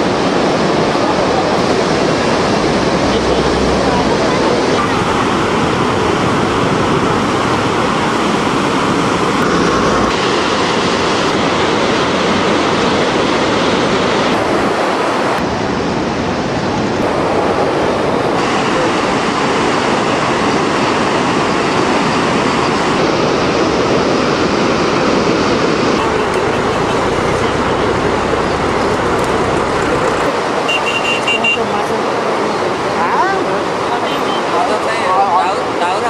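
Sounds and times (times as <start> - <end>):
floodwater rushing: 0.0 - 36.0.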